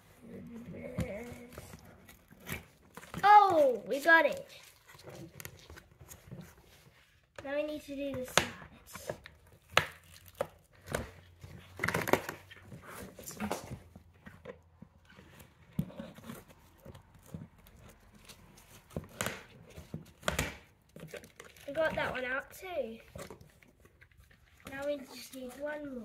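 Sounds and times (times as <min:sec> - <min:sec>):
cardboard rustling: 0:00.0 - 0:07.3, 0:08.0 - 0:26.0.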